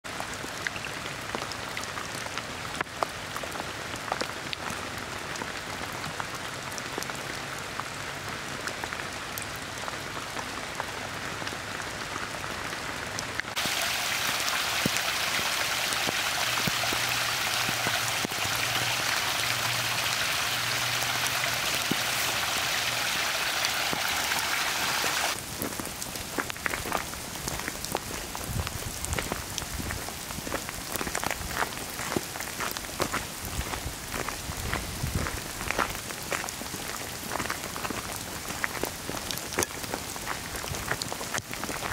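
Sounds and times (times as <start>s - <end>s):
rain patter in forest: 0.0s - 41.9s.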